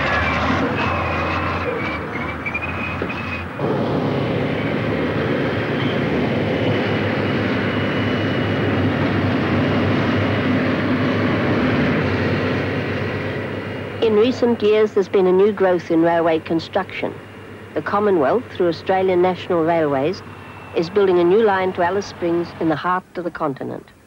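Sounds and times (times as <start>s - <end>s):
high wavering whine: 0.0s - 22.8s
heavy diesel engines under load: 0.0s - 24.0s.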